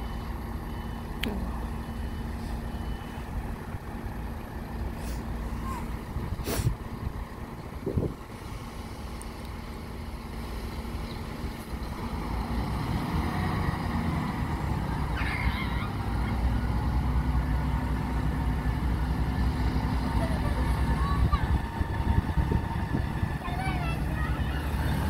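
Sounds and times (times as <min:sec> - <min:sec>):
diesel train engines rumbling: 0:00.0 - 0:25.0.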